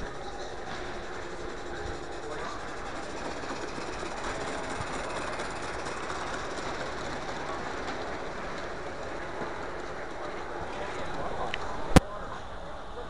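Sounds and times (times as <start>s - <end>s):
model steam train running past: 0.0s - 13.0s.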